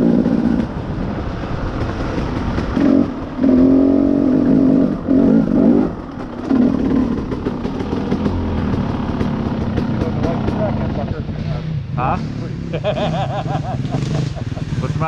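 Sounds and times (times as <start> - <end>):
two-stroke dirt bike engine revving: 0.0 - 1.0, 1.7 - 15.0.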